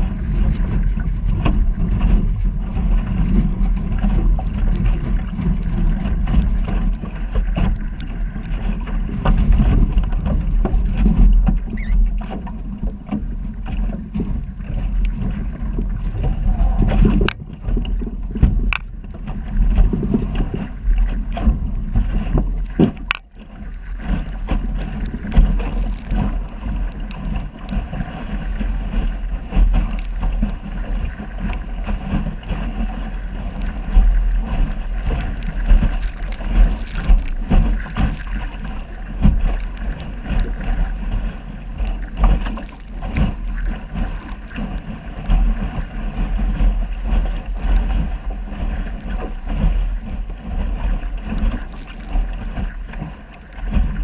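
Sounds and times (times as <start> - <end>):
hull splashing through water: 0.0 - 54.0
wind buffeting microphone: 0.0 - 54.0.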